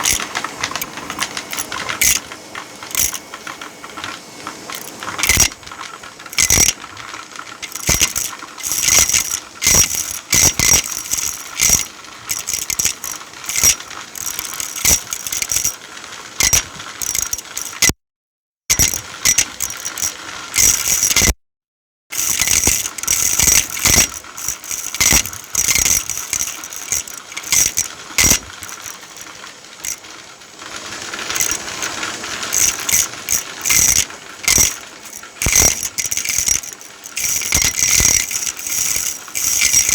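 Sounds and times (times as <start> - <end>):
rattling and clicking: 0.0 - 17.9, 18.7 - 21.3, 22.1 - 39.9.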